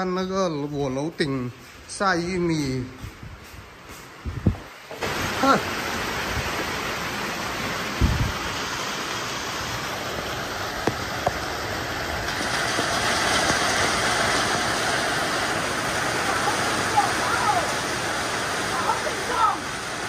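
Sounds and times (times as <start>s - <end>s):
heavy rain on roof and tarps: 0.0s - 20.0s.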